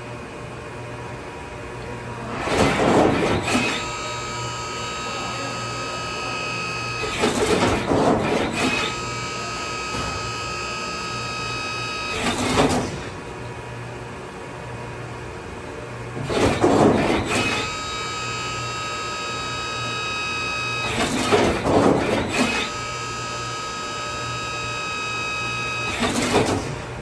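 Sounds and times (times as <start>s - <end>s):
machine high whine: 2.3s - 13.2s, 16.2s - 27.0s.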